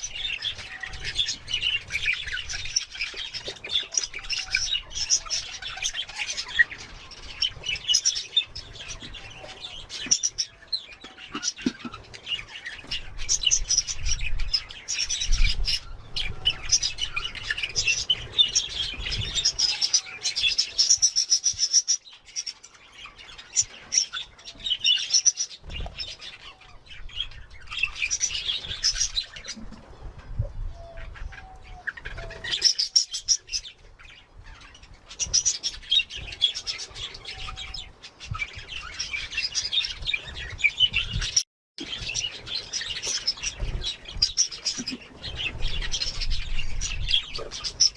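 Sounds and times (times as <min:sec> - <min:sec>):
budgerigars chattering and chirping: 0:00.0 - 0:29.8, 0:30.8 - 0:47.9.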